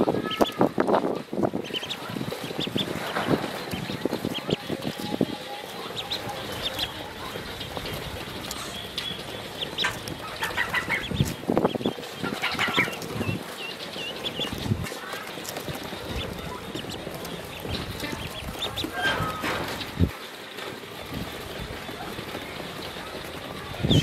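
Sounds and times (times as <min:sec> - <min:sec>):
ducklings peeping: 0:00.0 - 0:24.0
ducklings scuffing in sand: 0:00.0 - 0:24.0.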